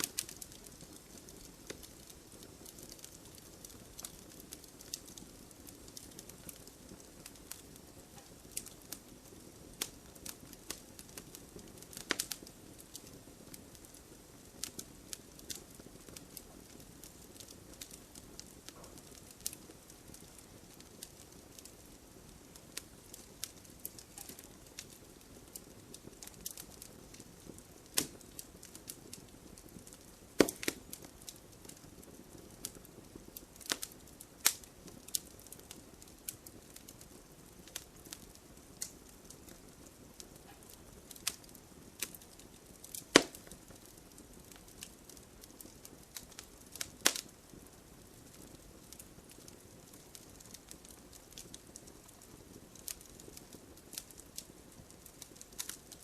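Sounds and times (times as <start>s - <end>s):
faint steady hiss: 0.0s - 56.0s
wood fire crackling and popping: 0.0s - 56.0s.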